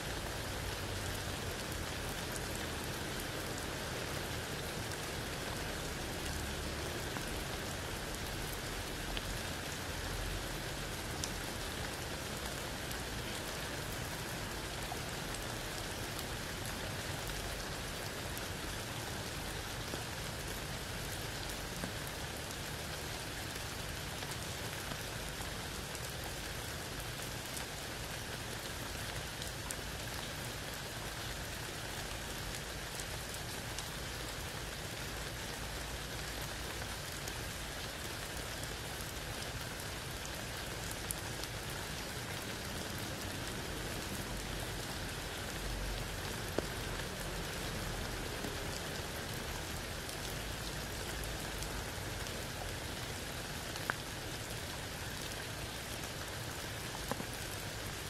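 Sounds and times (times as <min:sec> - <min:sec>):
rain falling through leaves: 0:00.0 - 0:58.0.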